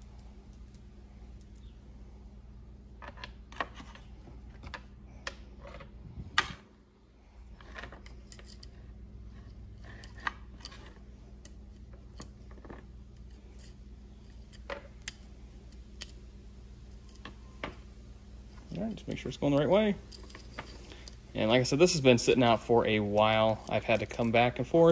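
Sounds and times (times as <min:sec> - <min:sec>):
low hum: 0:00.0 - 0:24.9.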